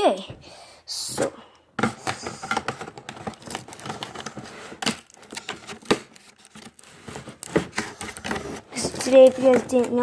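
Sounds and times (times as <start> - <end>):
handling clicks and crinkling: 1.8 - 10.0.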